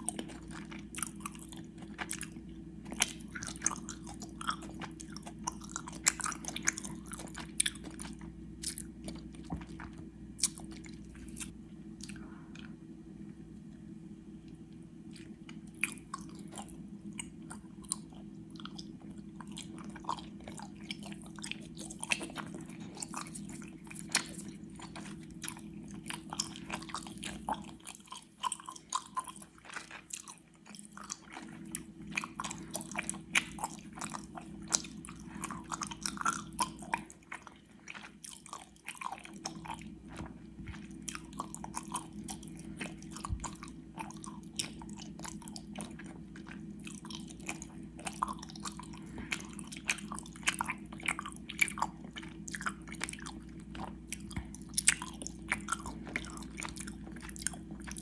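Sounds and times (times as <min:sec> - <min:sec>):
wet sticky chewing: 0:00.0 - 0:12.8, 0:15.1 - 0:58.0.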